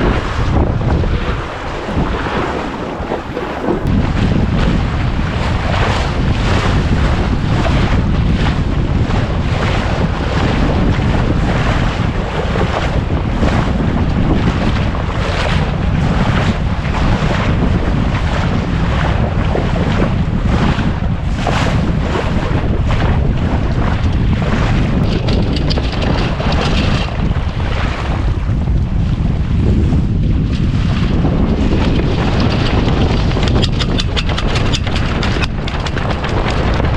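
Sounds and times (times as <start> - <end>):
water splashing along hull: 0.0 - 36.9
wind buffeting microphone: 0.0 - 36.9.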